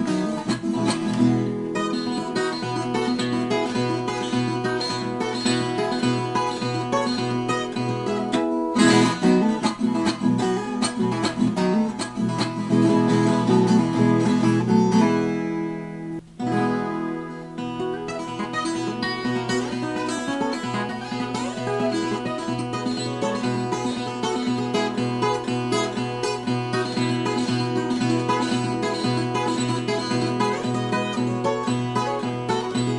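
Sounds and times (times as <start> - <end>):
acoustic guitar music: 0.0 - 32.9.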